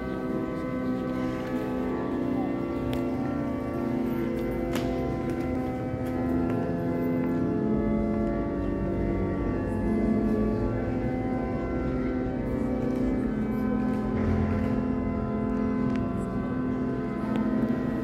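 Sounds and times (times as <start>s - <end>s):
long held chords in church: 0.0s - 18.0s.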